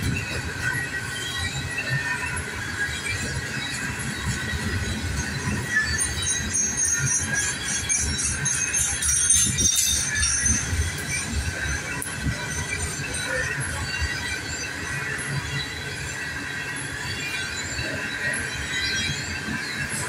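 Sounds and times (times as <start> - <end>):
high-pitched wheel squeal: 0.0 - 20.0
train wheels rumbling on rail: 0.0 - 20.0.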